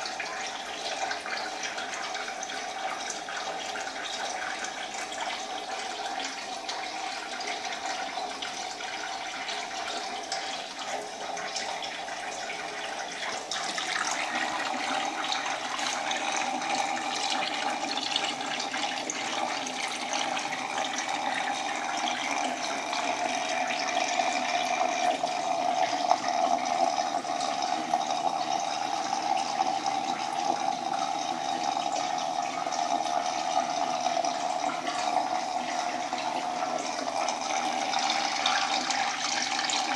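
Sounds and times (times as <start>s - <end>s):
pumped water splashing: 0.0s - 39.9s
water trickling: 0.0s - 39.9s.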